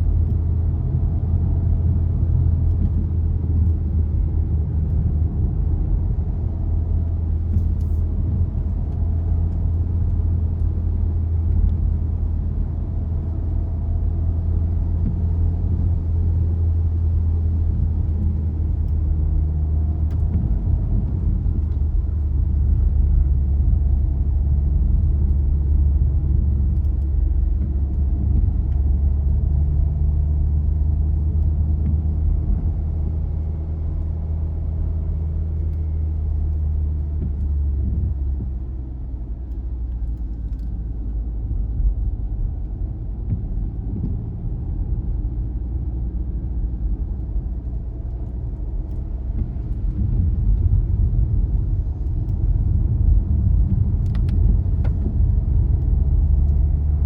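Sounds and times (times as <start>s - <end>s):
car engine: 0.0s - 57.0s
road rumble: 0.0s - 57.0s.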